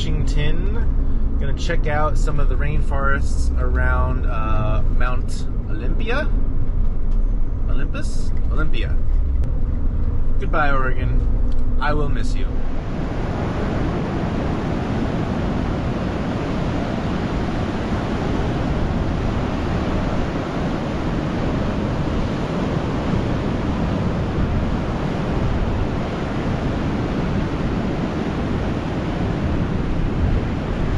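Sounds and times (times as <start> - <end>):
van road and wind noise: 0.0 - 30.9.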